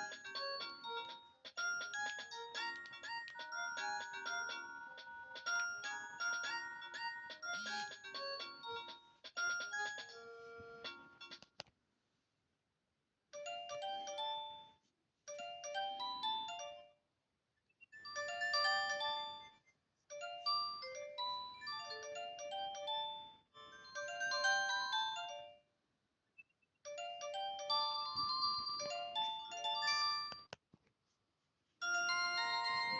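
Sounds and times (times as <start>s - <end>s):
polyphonic ringtone melody: 0.0s - 11.4s, 13.4s - 17.0s, 18.0s - 25.6s, 26.9s - 30.5s, 31.8s - 32.9s.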